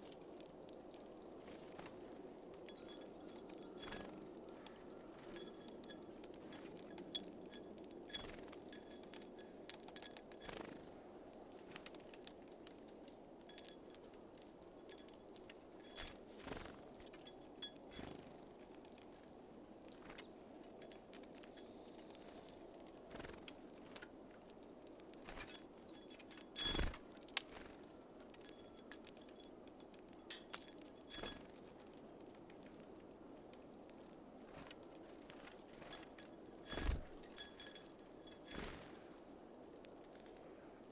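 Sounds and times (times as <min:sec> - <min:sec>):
birds tapping and pecking: 0:00.0 - 0:40.9
faint outdoor hiss: 0:00.0 - 0:40.9.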